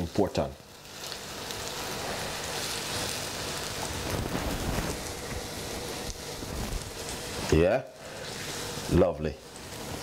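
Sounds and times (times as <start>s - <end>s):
plantain sizzling in oil: 0.0s - 10.0s.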